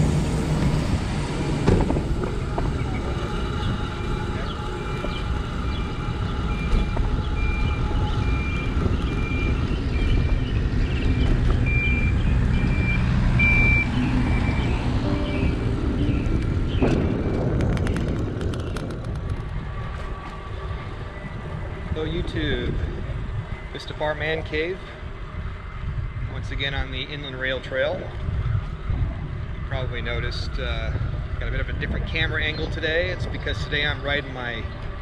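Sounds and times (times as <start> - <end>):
wind and riding noise: 0.0 - 35.0.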